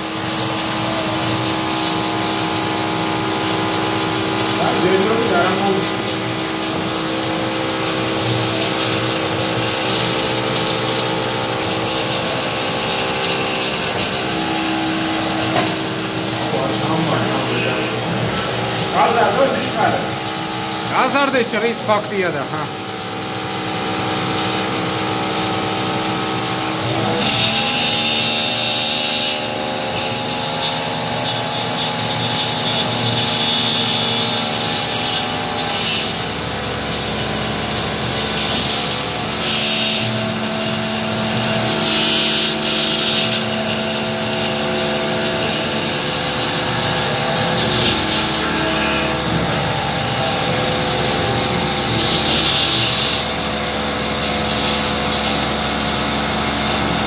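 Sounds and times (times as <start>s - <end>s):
high-pitched metal cutting noise: 0.0s - 57.0s
milling machine whine: 0.0s - 57.0s.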